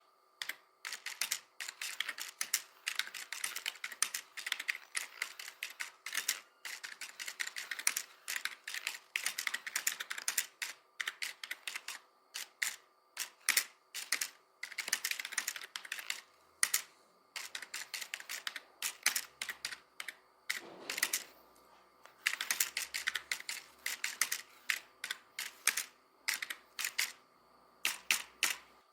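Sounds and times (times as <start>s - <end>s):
keyboard typing: 0.4s - 21.4s, 22.0s - 27.2s, 27.8s - 28.8s.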